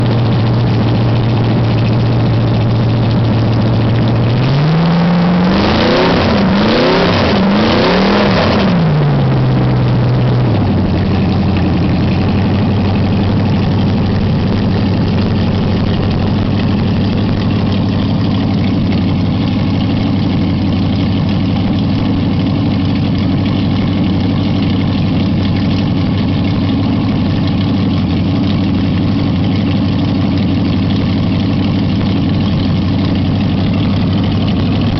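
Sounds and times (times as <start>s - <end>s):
race engine revving and idling: 0.0s - 34.9s.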